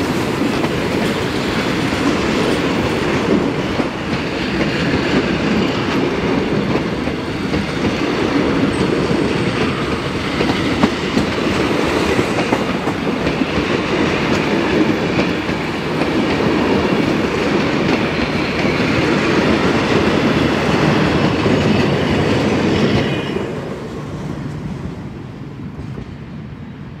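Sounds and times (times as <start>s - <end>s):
train wheels rolling on track: 0.0s - 27.0s.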